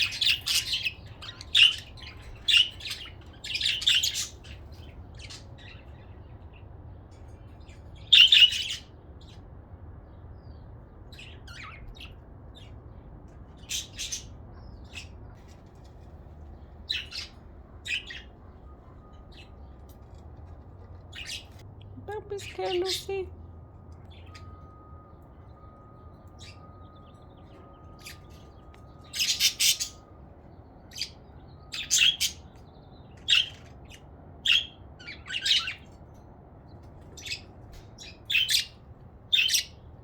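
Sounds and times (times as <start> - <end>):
budgerigars chirping and squawking: 0.0 - 6.6, 7.2 - 9.4, 11.1 - 12.8, 13.5 - 20.2, 20.8 - 23.3, 25.5 - 40.0.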